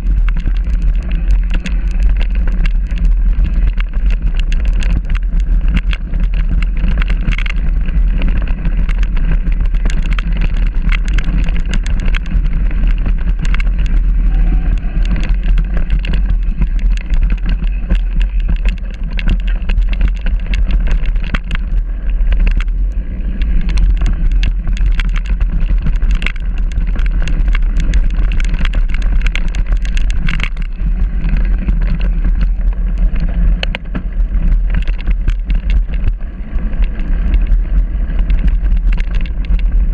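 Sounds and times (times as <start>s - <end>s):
bike rattling clicks and knocks: 0.0s - 39.9s
bike rumbling over gravel: 0.0s - 39.9s.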